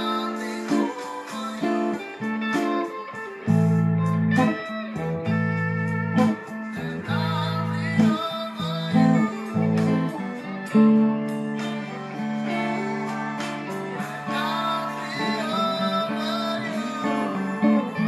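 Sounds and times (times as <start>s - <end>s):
blues electric guitar: 0.0s - 18.0s.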